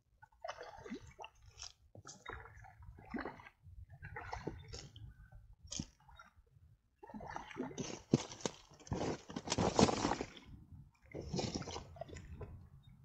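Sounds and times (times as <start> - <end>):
river water splashing and dripping: 0.0 - 12.8.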